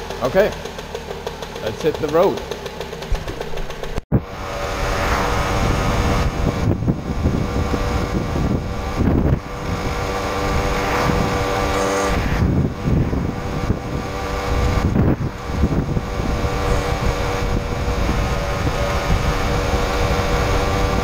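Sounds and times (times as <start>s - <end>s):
moped engine buzzing: 0.0s - 21.0s.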